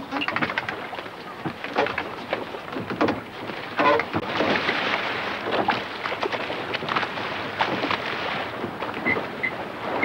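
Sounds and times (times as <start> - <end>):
water rushing along boat hull: 0.0 - 10.0.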